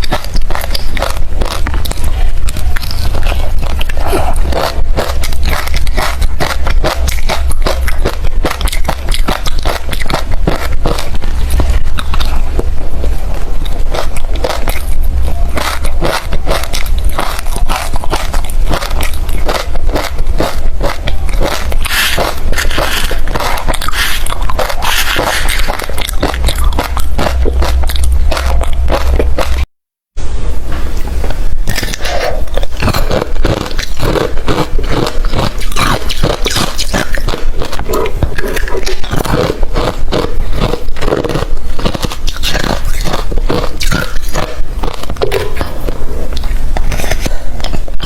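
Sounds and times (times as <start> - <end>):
ice crunching between teeth: 0.0 - 12.8, 13.6 - 29.7, 31.6 - 48.0.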